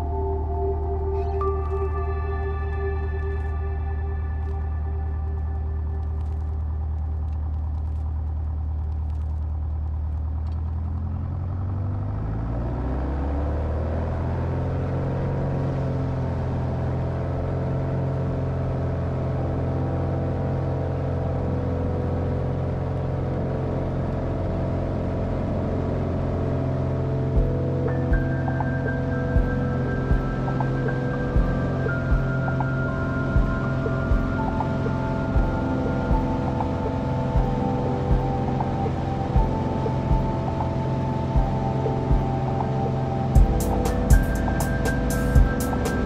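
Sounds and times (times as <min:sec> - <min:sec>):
propeller airplane engine: 0:04.4 - 0:46.0.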